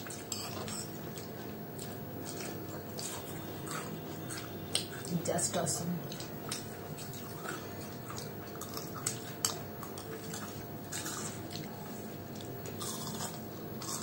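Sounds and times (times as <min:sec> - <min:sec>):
people chewing crunchy snacks: 0:00.0 - 0:14.0.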